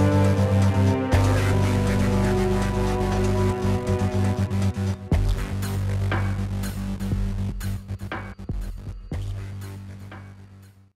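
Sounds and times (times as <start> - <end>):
electronic music with bass: 0.0 - 10.9.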